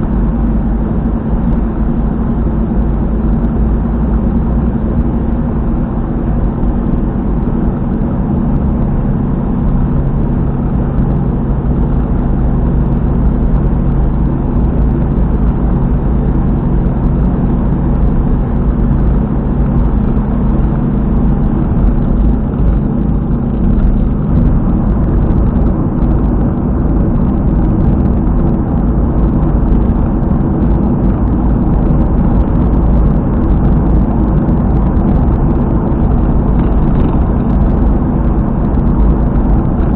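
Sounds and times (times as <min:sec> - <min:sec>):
car driving at highway speed: 0:00.0 - 0:39.9
rumbling and knocking from wheel: 0:00.0 - 0:39.9.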